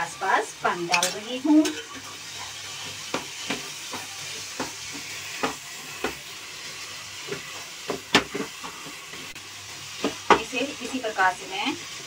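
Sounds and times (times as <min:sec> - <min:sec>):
mixture sizzling: 0:00.0 - 0:12.0.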